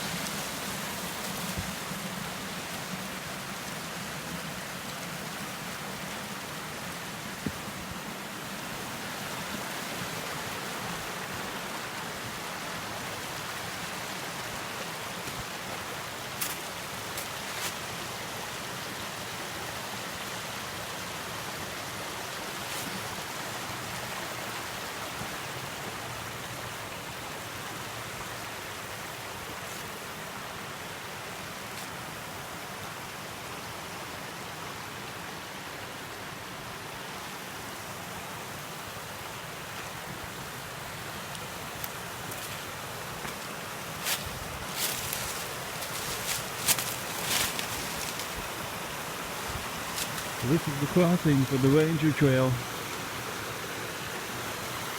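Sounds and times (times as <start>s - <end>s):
creek rushing over rocks: 0.0s - 54.9s.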